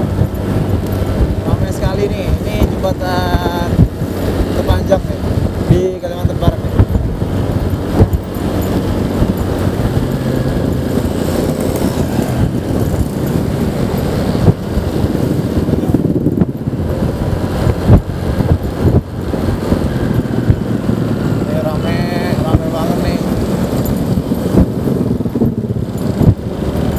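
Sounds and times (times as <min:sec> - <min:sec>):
rushing road noise: 0:00.0 - 0:26.9
scooter engine running: 0:00.0 - 0:26.9.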